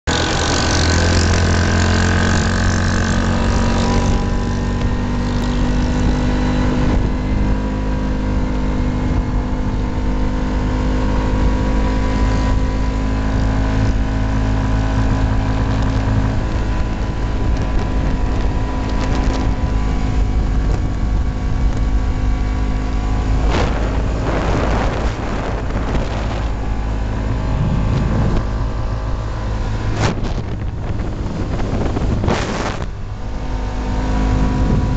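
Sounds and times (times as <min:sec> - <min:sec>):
vehicle engine running: 0:00.0 - 0:34.9
wind noise: 0:00.1 - 0:34.9.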